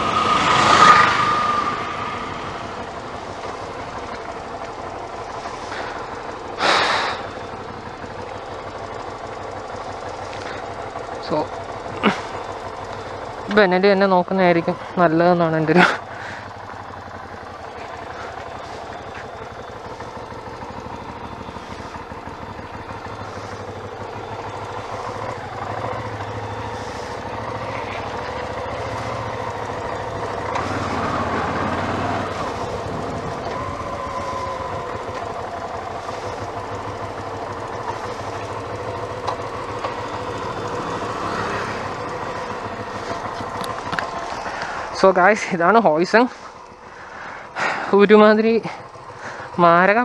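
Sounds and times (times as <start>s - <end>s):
motorcycle engine running: 0.0s - 50.0s
road noise: 0.0s - 50.0s.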